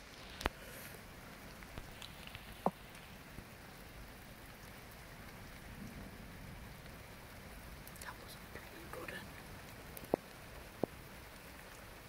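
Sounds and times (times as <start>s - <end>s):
raindrop ticks: 0.0s - 12.0s
steady rain falling: 0.0s - 12.0s.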